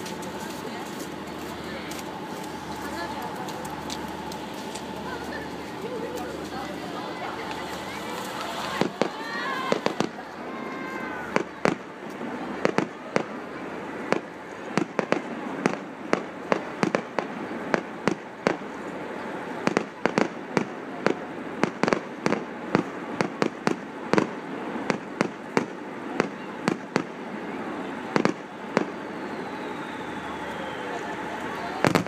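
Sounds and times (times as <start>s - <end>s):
fireworks bangs: 0.0s - 18.8s, 19.5s - 32.0s.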